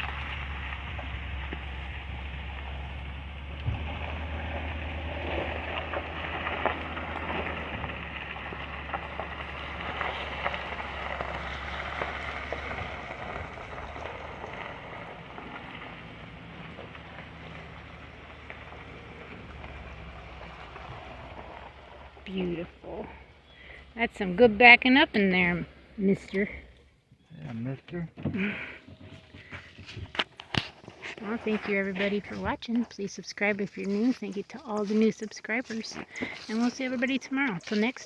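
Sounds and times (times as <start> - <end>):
truck engine hum: 0.0 - 38.0.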